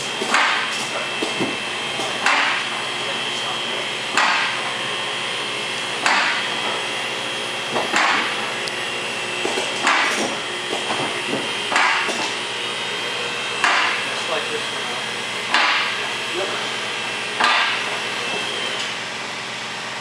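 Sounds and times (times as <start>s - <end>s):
workshop background hum: 0.0s - 20.0s.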